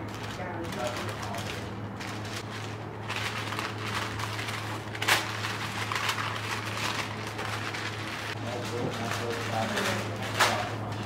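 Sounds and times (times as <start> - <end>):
parchment paper rustling and crinkling: 0.0 - 11.0
sharp paper crackle: 0.0 - 11.0.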